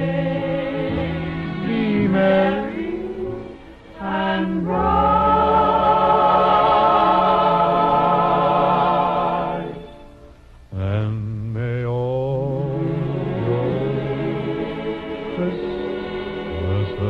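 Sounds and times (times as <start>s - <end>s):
choir singing: 0.0s - 10.3s, 11.0s - 17.0s.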